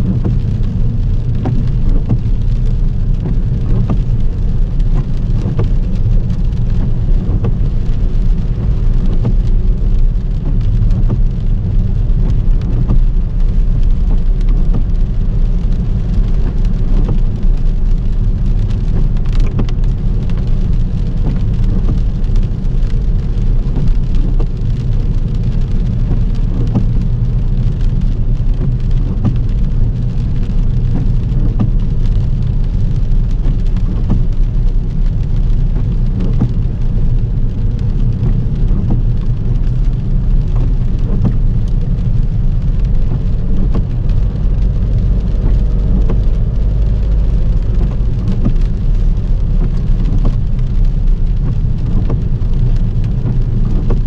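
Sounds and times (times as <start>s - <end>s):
low driving rumble: 0.0s - 54.0s
rain drops hitting a car: 0.0s - 54.0s.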